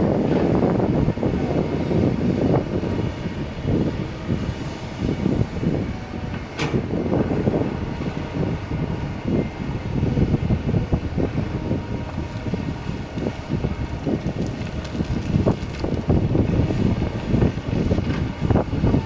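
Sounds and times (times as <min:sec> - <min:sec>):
excavator diesel engine running: 0:00.0 - 0:19.0
wind on microphone: 0:00.0 - 0:19.0.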